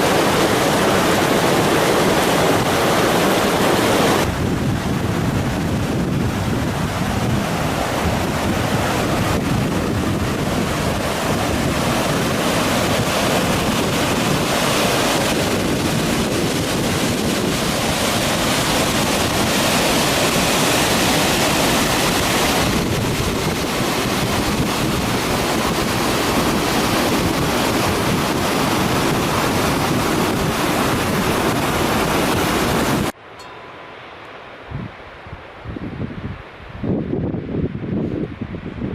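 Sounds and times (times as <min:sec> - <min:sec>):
waterfall rushing: 0:00.0 - 0:33.2.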